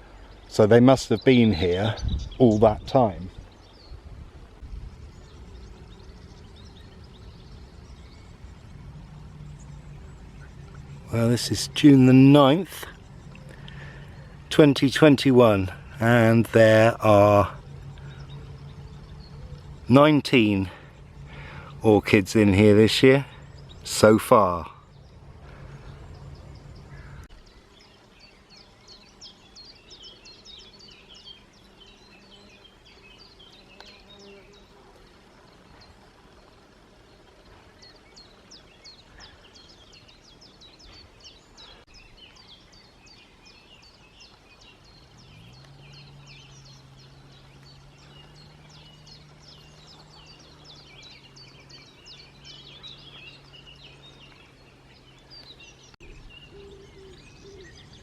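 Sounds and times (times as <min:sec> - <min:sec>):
small birds chirping: 0:00.0 - 0:58.0
insect buzzing: 0:03.4 - 0:24.0, 0:24.8 - 0:58.0.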